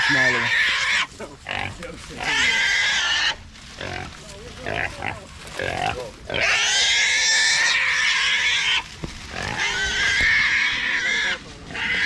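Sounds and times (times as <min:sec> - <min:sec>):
wild hog squealing: 0:00.0 - 0:01.6, 0:02.2 - 0:04.1, 0:04.7 - 0:12.0.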